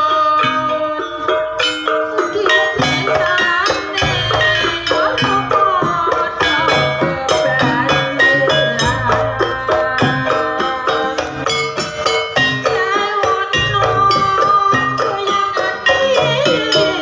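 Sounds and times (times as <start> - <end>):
drums: 0.0 - 17.0
wavering melody line: 0.0 - 17.0
bright struck pitched notes: 0.4 - 17.0.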